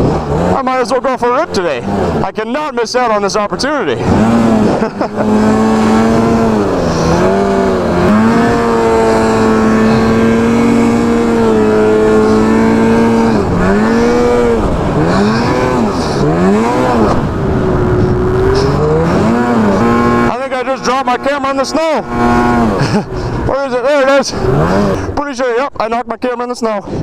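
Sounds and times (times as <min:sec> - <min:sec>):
snowmobile engine revving: 0:00.0 - 0:25.6.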